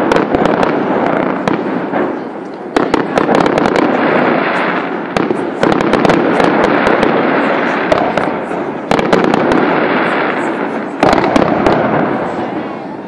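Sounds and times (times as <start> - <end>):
firework shells bursting: 0.0 - 12.7
fireworks rumble and crackle: 0.0 - 13.0.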